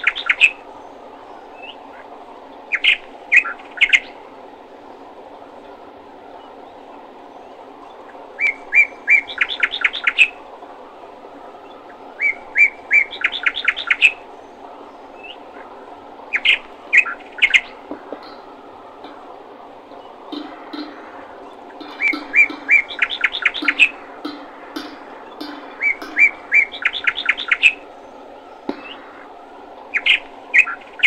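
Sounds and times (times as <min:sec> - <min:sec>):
low background noise: 0:00.0 - 0:31.0
songbird singing: 0:00.0 - 0:31.0.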